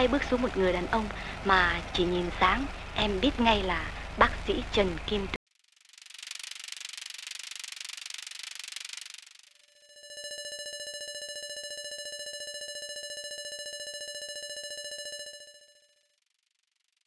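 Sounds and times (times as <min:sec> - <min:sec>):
fluttering synthesizer note: 0:00.0 - 0:17.0.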